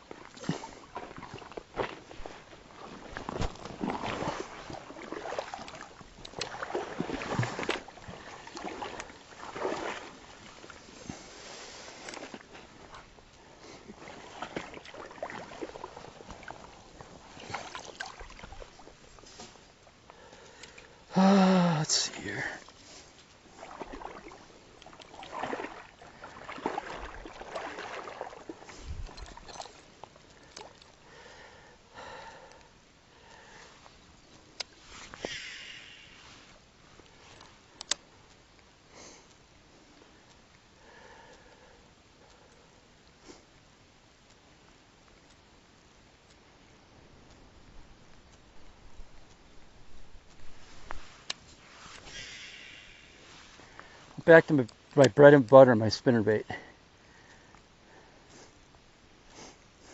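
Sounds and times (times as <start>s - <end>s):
water swishing around kayak: 0.0s - 21.2s, 21.8s - 59.9s.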